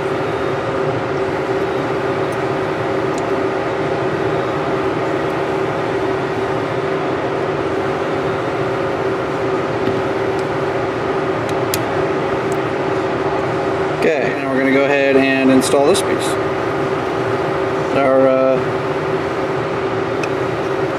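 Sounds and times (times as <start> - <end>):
fan humming: 0.0 - 20.9.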